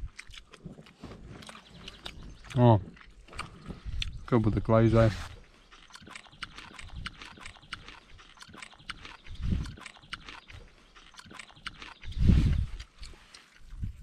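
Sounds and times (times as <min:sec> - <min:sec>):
wet chewing mouth noises: 0:00.0 - 0:04.3, 0:05.1 - 0:14.0.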